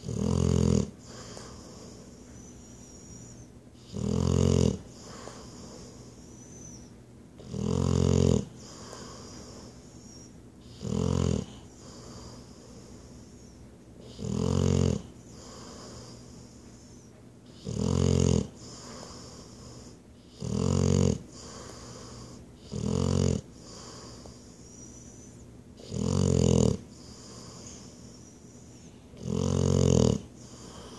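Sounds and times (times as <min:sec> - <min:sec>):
dog snoring: 0:00.0 - 0:30.9.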